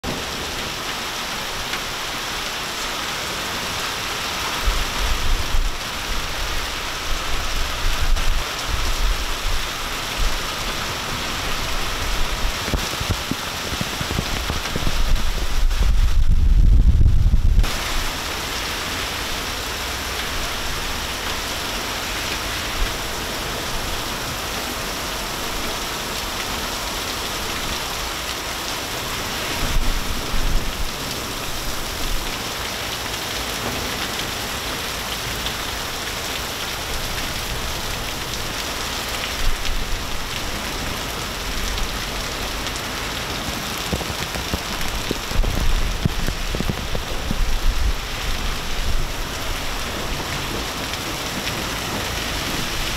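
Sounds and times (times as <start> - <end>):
heavy rain and hail: 0.0 - 52.9.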